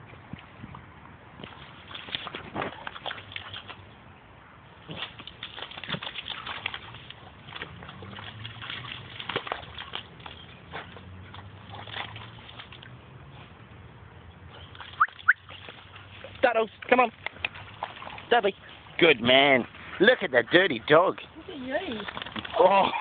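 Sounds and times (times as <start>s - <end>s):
dog splashing in muddy water: 1.2s - 4.1s, 4.7s - 23.0s.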